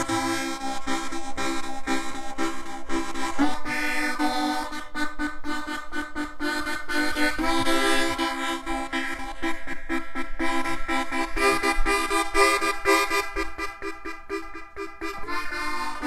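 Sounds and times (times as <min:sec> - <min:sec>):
harmonica chords: 0:00.0 - 0:16.0.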